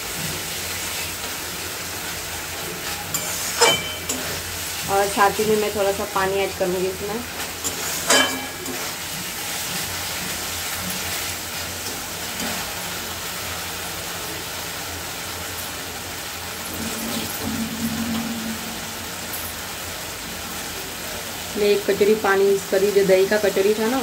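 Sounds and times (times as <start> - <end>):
curry sizzling in oil: 0.0 - 24.0.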